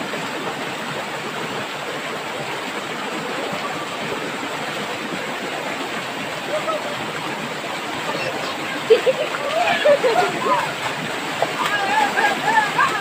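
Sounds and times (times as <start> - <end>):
shallow river rushing: 0.0 - 13.0.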